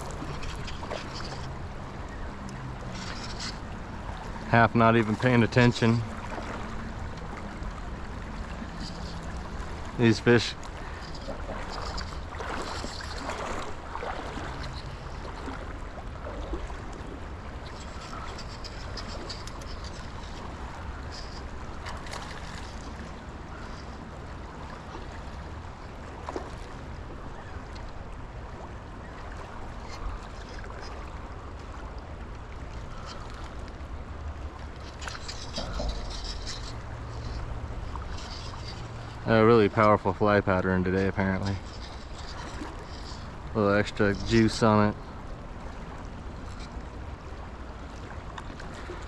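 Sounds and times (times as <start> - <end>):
river current rushing: 0.0 - 49.0.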